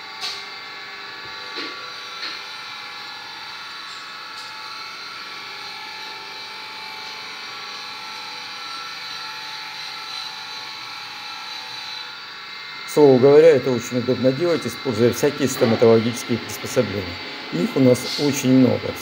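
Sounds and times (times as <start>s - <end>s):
machine humming and whining: 0.0s - 19.0s.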